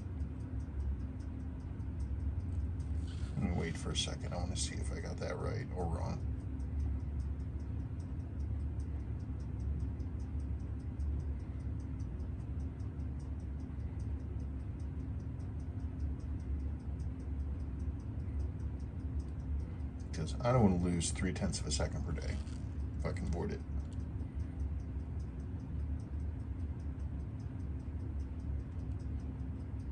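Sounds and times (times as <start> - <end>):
low steady hum: 0.0 - 29.9
rapid light ticking: 0.0 - 29.9.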